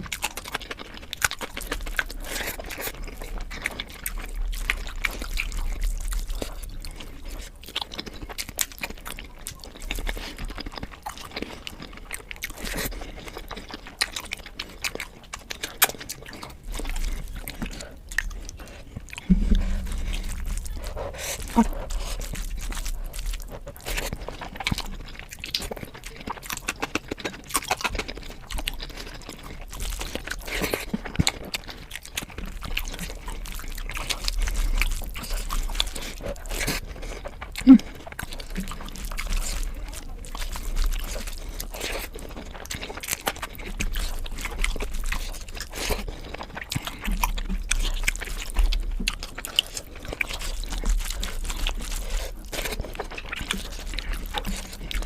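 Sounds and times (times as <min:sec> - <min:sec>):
chewing and crunching: 0:00.0 - 0:55.0
mouth clicks and smacks: 0:00.0 - 0:55.0.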